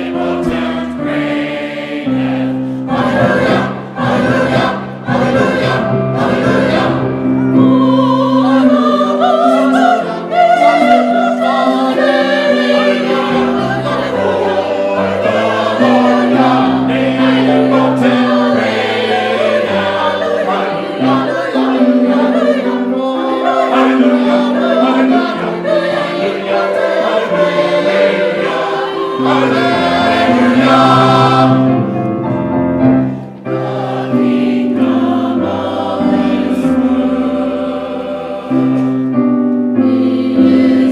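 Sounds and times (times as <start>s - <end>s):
choir singing a hymn: 0.0s - 40.9s.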